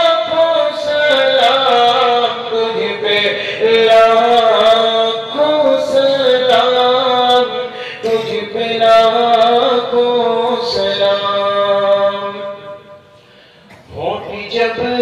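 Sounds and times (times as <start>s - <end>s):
man chanting devotional poem: 0.0s - 13.1s, 13.7s - 15.0s.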